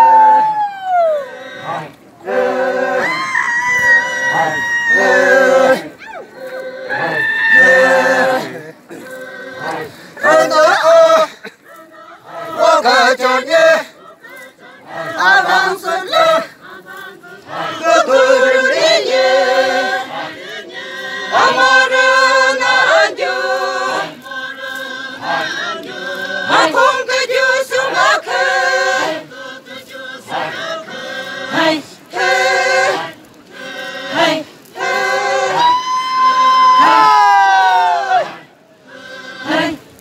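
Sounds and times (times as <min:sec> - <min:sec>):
group singing together: 0:00.9 - 0:40.0.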